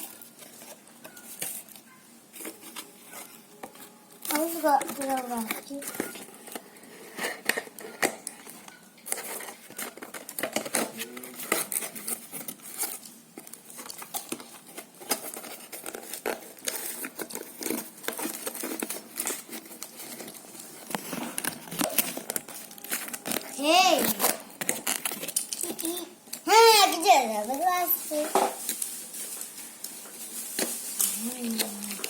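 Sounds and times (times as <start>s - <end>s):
plastic packaging crinkling: 0.0s - 32.0s.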